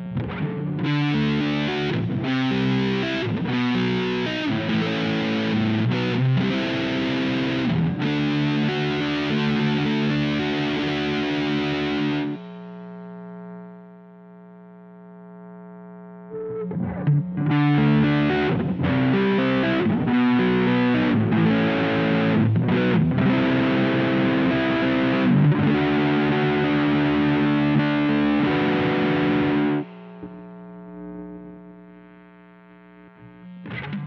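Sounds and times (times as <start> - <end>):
fuzzed electric guitar riff: 0.0 - 34.0.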